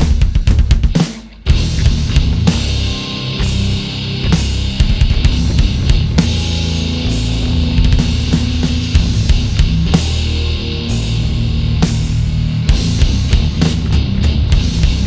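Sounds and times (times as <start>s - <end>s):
bass guitar: 0.0s - 15.0s
distorted electric guitars: 0.0s - 15.0s
drum kit with cymbal hits: 0.0s - 15.0s.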